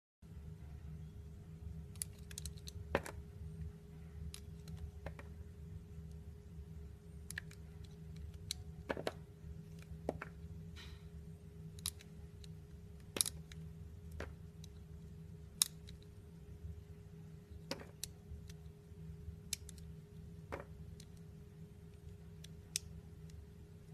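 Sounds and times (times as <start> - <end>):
faint steady hum: 0.2 - 23.9.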